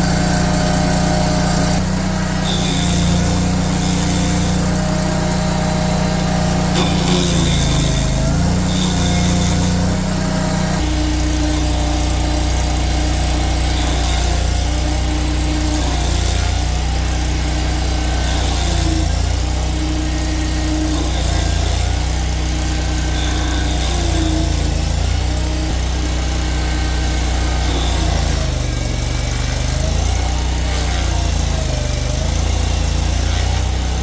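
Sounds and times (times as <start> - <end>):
stump grinder engine running: 0.0 - 34.0.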